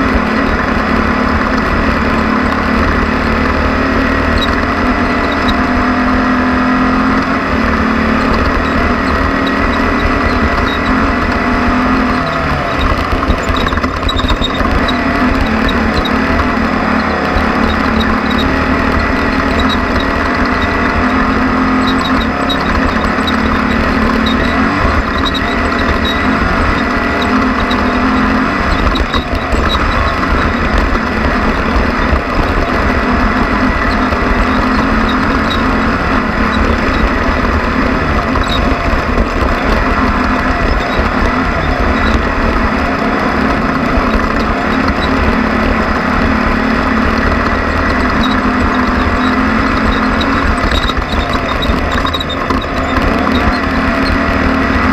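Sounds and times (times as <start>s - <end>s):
off-road vehicle engine running hard: 0.0s - 54.9s.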